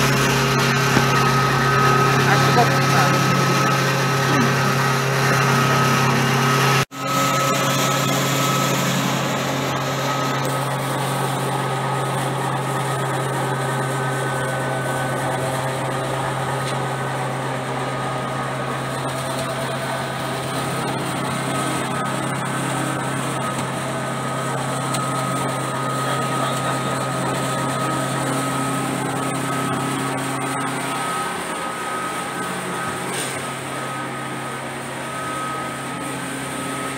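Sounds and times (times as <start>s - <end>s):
noodle machine motor hum: 0.0s - 36.9s.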